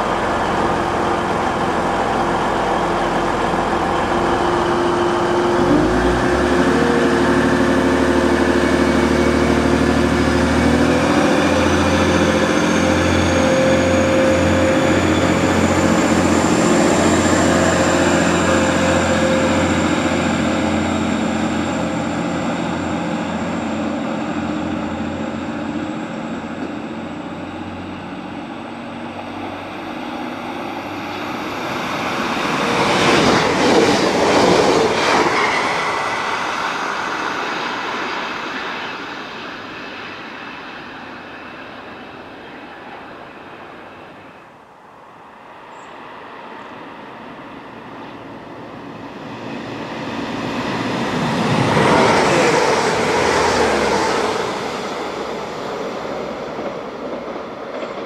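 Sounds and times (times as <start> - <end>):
diesel train engine running: 0.0 - 58.0
diesel train passing close: 0.0 - 58.0
distant train approaching: 0.0 - 58.0.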